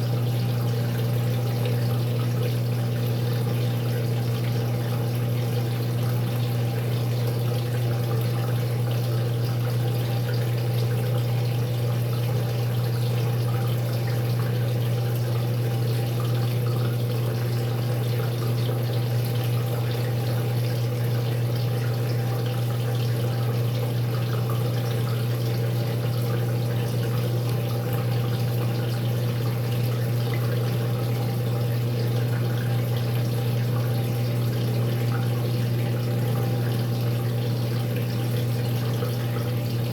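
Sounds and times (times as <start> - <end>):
washing machine hum: 0.0 - 39.9
water running through washing machine: 0.0 - 39.9.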